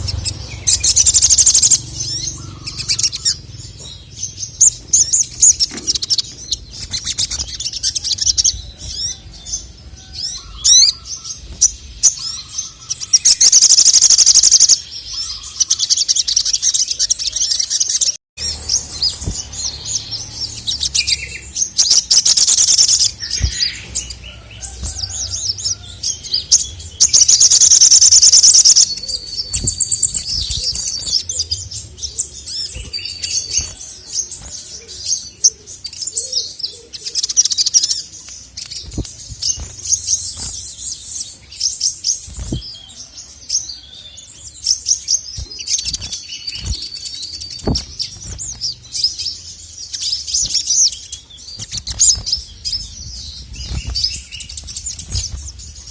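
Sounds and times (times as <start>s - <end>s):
bird singing high chirps and trills: 0.0s - 55.9s.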